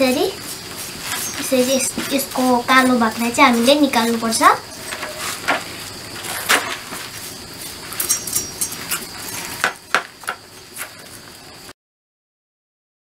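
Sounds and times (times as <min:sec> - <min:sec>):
knife scraping charred skin: 0:00.3 - 0:11.5.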